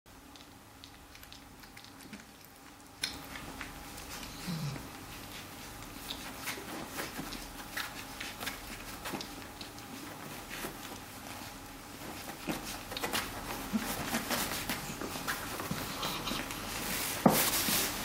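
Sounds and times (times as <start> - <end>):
puppies suckling: 0.2 - 18.0.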